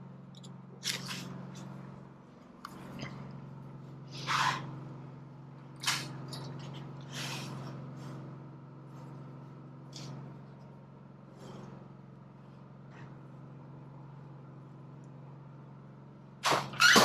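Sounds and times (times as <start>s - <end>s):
portable generator droning: 0.0s - 17.0s.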